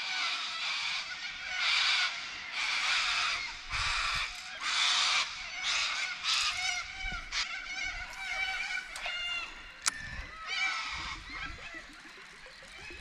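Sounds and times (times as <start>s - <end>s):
harsh screeching bird calls: 0.0s - 13.0s.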